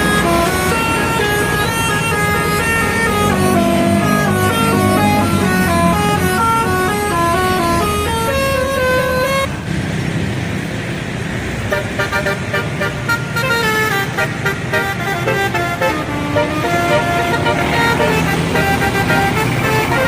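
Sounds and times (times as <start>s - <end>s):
bus horn melody: 0.0s - 9.5s, 11.7s - 20.0s
engine and road noise: 0.0s - 20.0s.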